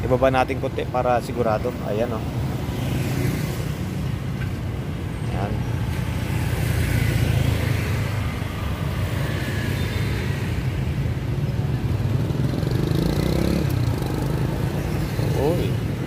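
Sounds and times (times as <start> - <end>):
passing motorbikes and cars: 0.0 - 16.0.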